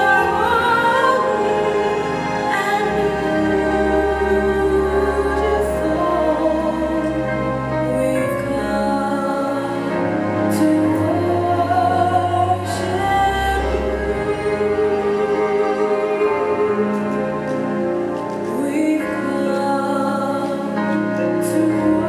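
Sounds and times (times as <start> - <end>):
gospel singing: 0.0 - 22.0.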